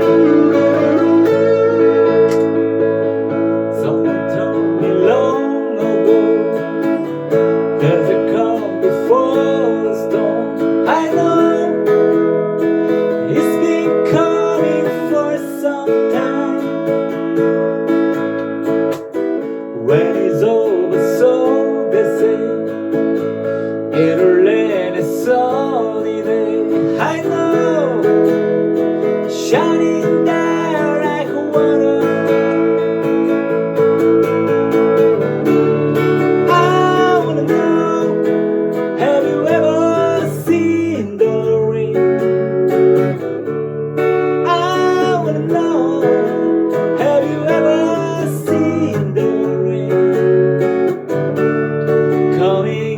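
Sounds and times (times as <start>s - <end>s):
sliding bending lead melody: 0.0s - 52.9s
strummed acoustic guitar chords: 0.0s - 52.9s.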